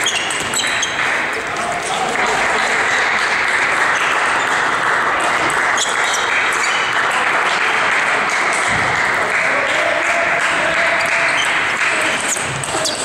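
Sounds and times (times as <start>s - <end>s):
sports hall din: 0.0s - 13.0s.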